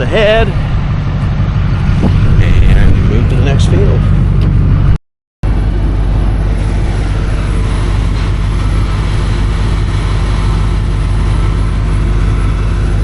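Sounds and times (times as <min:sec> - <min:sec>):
heavy vehicle engine droning: 0:00.0 - 0:13.0.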